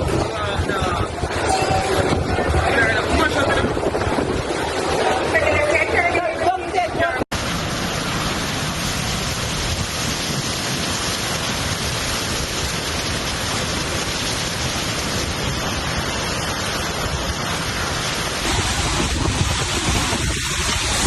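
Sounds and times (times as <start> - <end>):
heavy rain: 0.0 - 21.0
wind: 0.0 - 21.0.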